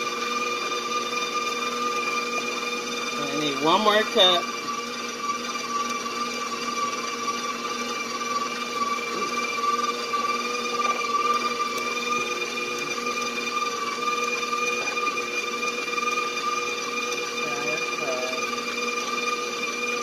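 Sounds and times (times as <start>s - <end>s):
electric mixer motor whine: 0.0s - 20.0s.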